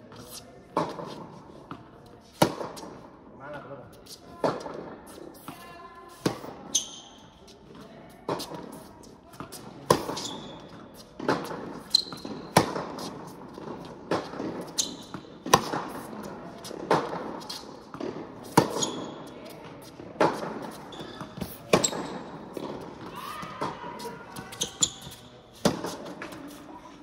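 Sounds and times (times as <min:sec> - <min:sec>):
tennis ball hit and bouncing: 0:00.2 - 0:03.0, 0:04.4 - 0:26.6.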